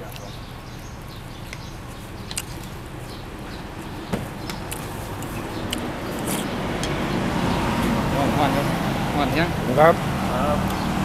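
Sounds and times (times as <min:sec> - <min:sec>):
road vehicle approaching: 0:00.0 - 0:11.0.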